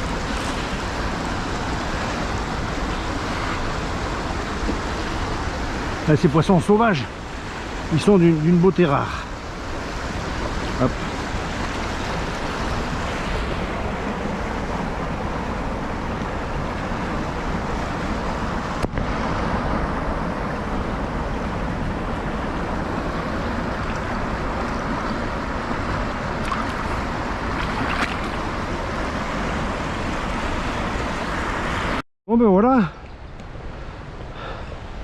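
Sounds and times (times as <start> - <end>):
river current rushing: 0.0 - 32.0.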